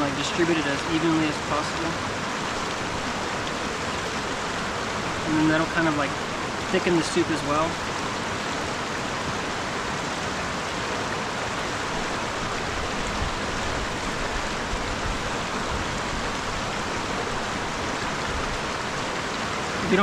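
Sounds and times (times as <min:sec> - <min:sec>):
mountain river rushing: 0:00.0 - 0:20.0.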